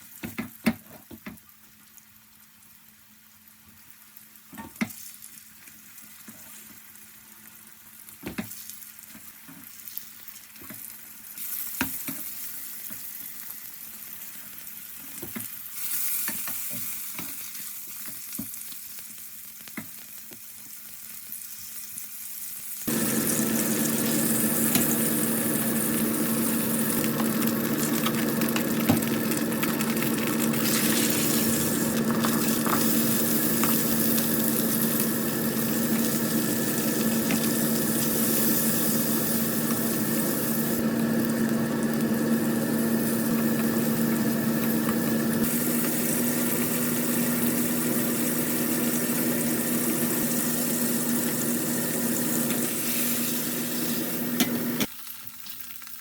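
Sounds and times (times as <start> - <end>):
food sizzling in a pan: 1.6 - 56.0.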